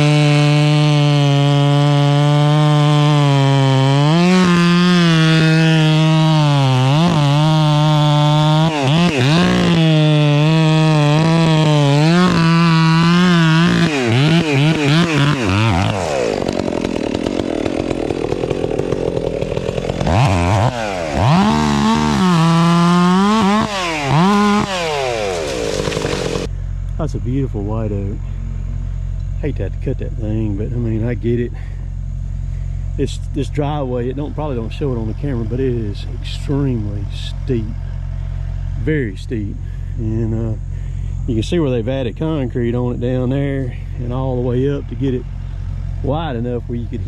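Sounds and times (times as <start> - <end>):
chainsaw cutting wood: 0.0 - 26.5, 33.6 - 47.0.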